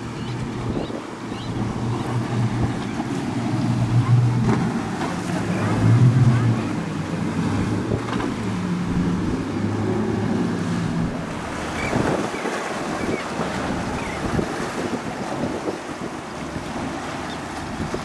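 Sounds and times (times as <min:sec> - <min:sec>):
motorboat engine humming: 0:00.0 - 0:18.0
waves washing: 0:00.0 - 0:18.0
wind buffeting microphone: 0:00.0 - 0:18.0.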